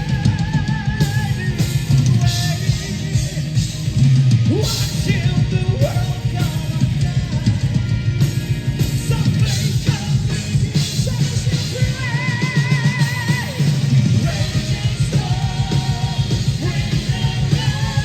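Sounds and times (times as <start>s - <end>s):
person singing: 0.0s - 8.2s, 8.9s - 18.0s
drum kit: 0.0s - 18.0s
metal band playing live: 0.0s - 18.0s.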